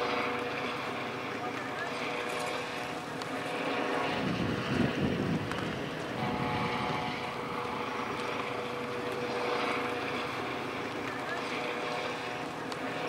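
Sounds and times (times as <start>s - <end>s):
electric scooter motor whine: 0.0s - 13.0s.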